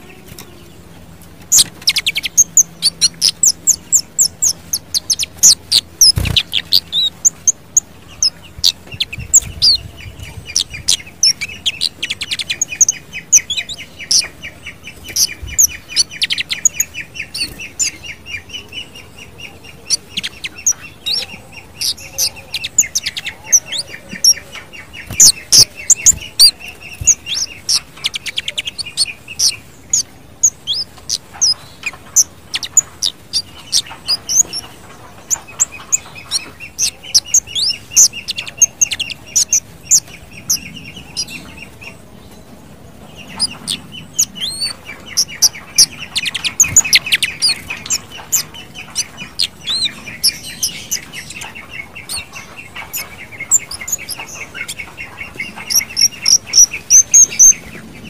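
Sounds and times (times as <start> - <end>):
buzzy bird trill: 0.0 - 18.8, 19.8 - 41.8, 43.2 - 57.8.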